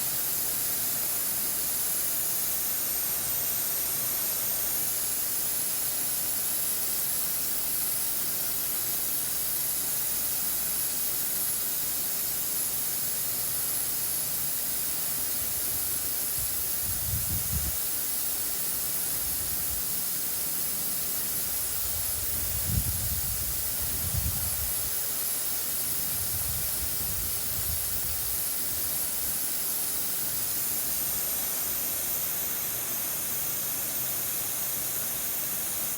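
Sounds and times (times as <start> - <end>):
water sprinkler hissing: 0.0 - 35.9.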